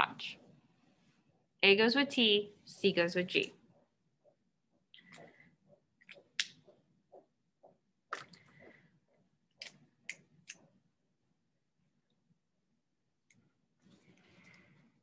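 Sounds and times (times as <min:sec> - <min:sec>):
faint room noise: 0:00.0 - 0:15.0.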